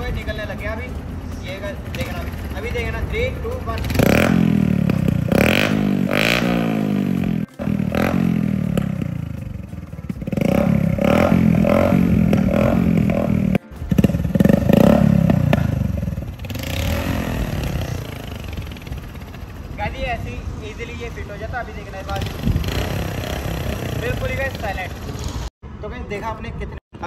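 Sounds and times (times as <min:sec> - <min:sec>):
motorcycle engine revving: 0:01.6 - 0:20.0, 0:22.0 - 0:25.5.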